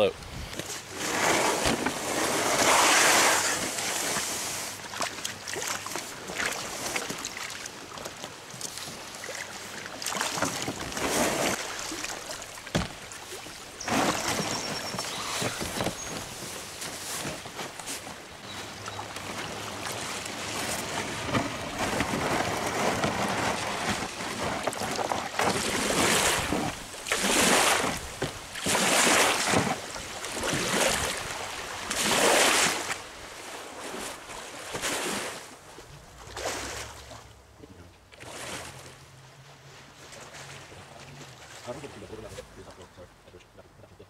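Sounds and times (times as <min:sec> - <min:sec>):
water rushing and splashing: 0:00.8 - 0:37.5, 0:38.1 - 0:42.4.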